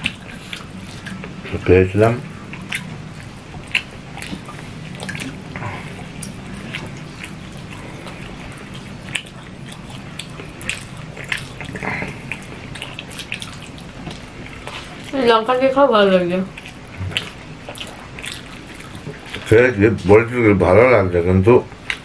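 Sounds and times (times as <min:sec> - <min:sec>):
chewing smacks: 0:00.0 - 0:01.7, 0:02.3 - 0:15.2, 0:16.5 - 0:19.6, 0:21.7 - 0:22.0
low steady hum: 0:00.0 - 0:22.0.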